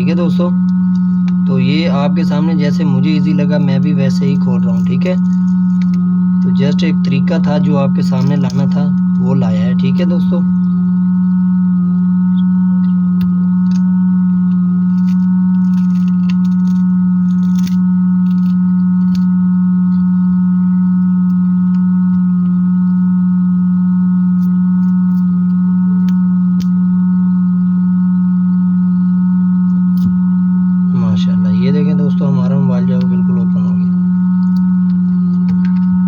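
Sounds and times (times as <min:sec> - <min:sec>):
loud low hum: 0:00.0 - 0:36.0.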